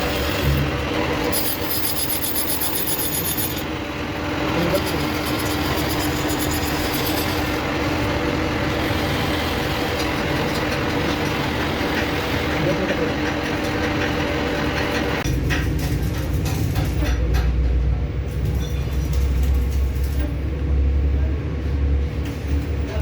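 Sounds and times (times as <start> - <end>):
workshop machine humming: 0.0 - 23.0.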